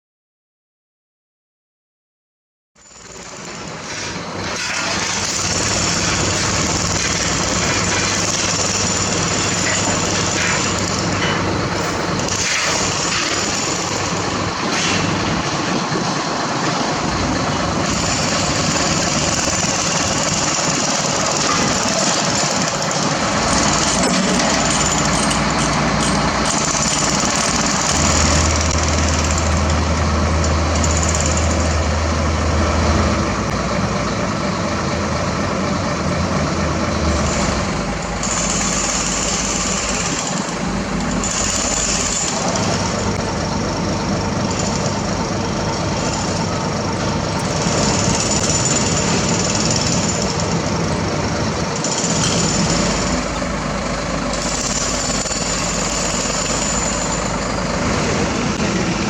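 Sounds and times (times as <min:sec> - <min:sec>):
construction site noise: 0:02.8 - 0:59.0
diesel machinery running: 0:02.8 - 0:59.0.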